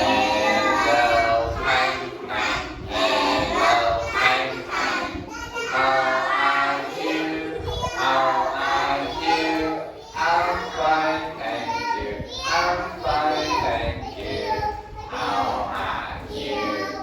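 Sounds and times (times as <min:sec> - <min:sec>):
adult singing: 0:00.0 - 0:17.0
children singing in chorus: 0:00.0 - 0:17.0.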